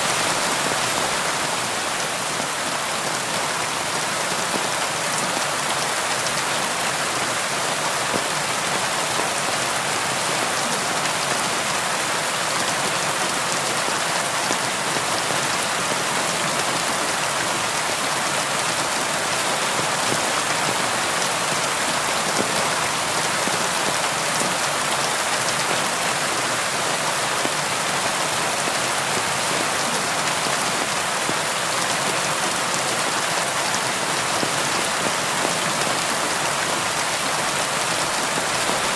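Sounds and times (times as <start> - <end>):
rain on a window pane: 0.0 - 38.9.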